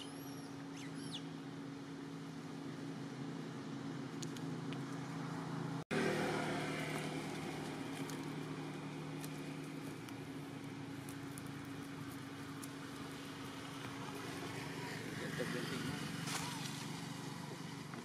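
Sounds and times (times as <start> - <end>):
outdoor ambient haze: 0.0 - 18.0
vehicle engine humming: 0.0 - 18.0.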